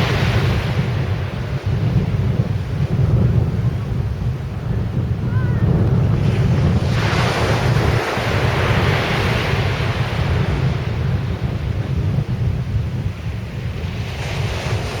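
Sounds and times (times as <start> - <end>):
sea surf on a beach: 0.0 - 15.0
wind buffeting microphone: 0.0 - 15.0.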